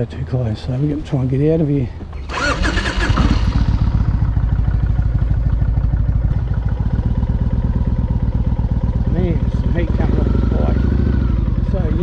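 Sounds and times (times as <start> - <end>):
engine clatter: 2.0 - 12.0
motorcycle engine idling: 2.1 - 12.0.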